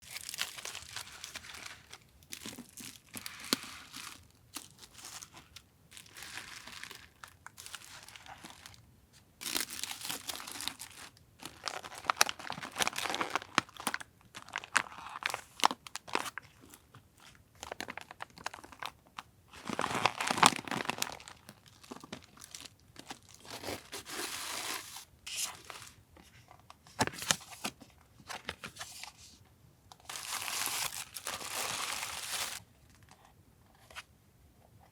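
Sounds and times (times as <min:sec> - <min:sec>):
packaging crinkling and tearing: 0:00.0 - 0:08.8, 0:09.4 - 0:26.0, 0:30.0 - 0:33.2.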